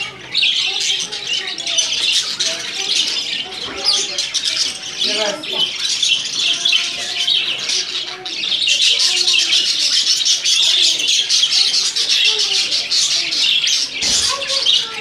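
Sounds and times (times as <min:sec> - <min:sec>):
budgerigars chattering and warbling: 0:00.0 - 0:15.0.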